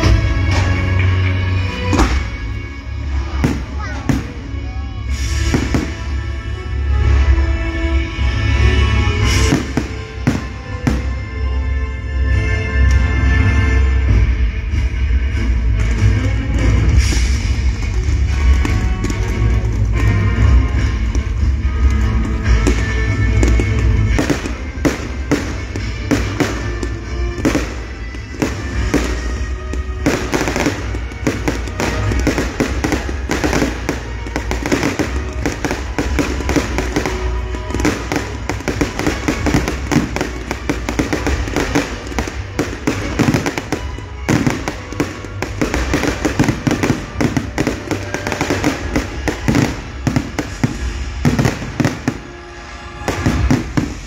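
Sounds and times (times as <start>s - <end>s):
fireworks bangs and crackles: 0.0s - 54.0s
music soundtrack: 0.0s - 54.0s.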